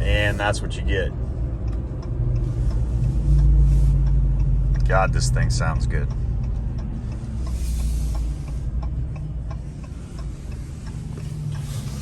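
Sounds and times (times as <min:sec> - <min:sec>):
truck engine deep rumble: 0:00.0 - 0:12.0.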